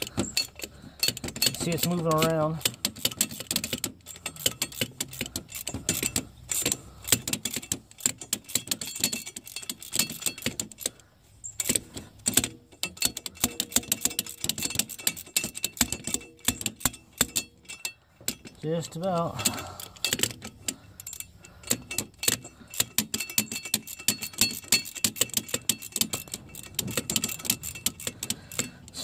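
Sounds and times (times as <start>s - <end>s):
hand ratchet clicking: 0.0s - 29.0s.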